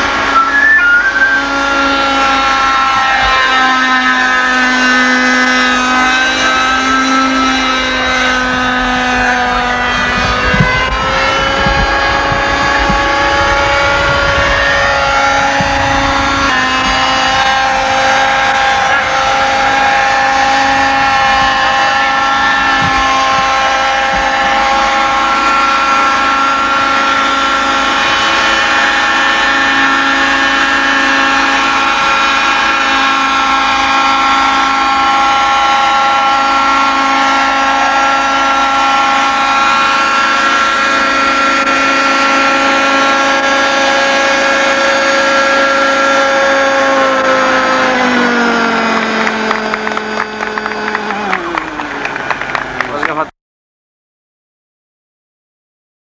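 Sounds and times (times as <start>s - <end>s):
model helicopter buzzing whine: 0.0s - 53.2s.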